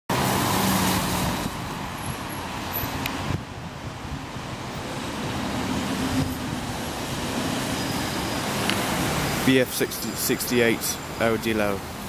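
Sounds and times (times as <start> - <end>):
car engines passing: 0.1 - 12.0
tyres hissing on wet road: 0.1 - 12.0.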